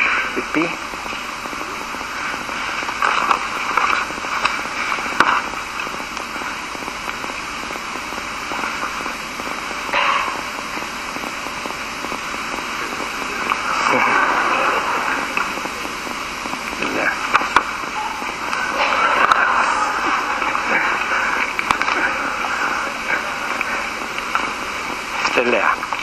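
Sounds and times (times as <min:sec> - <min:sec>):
recording hiss and crackle: 0:00.0 - 0:26.0.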